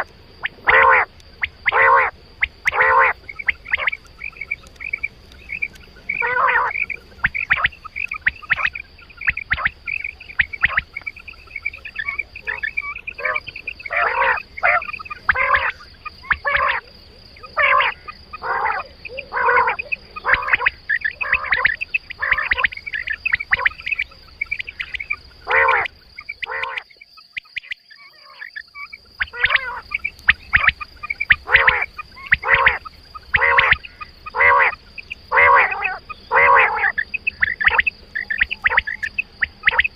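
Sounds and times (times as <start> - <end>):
quail calls: 0.0 - 39.9.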